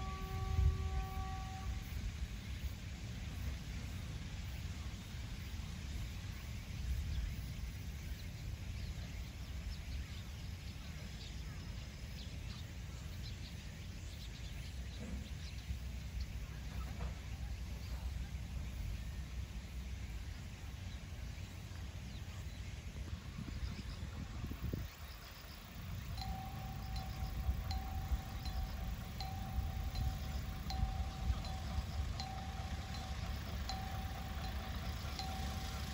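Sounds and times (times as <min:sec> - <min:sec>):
steady low rumble: 0:00.0 - 0:35.9
faint bird chirps: 0:06.3 - 0:35.9.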